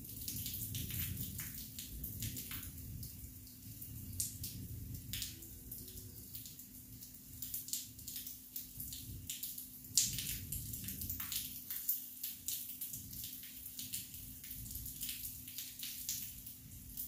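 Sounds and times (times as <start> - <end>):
raindrops tapping on a surface: 0.0 - 17.0.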